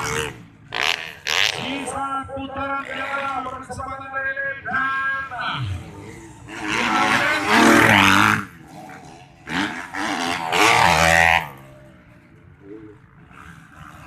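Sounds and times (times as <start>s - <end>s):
dirt bike engines revving hard: 0.0s - 14.0s.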